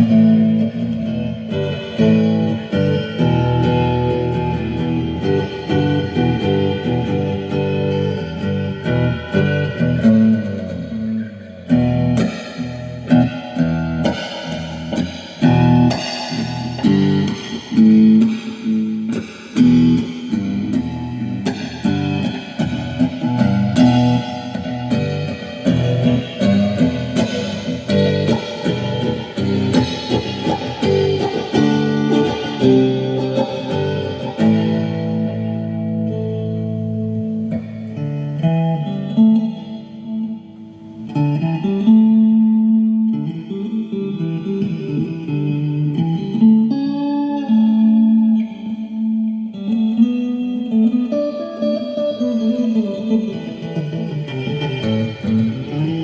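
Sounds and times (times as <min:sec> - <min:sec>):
guitar improvising: 0:00.0 - 0:56.0.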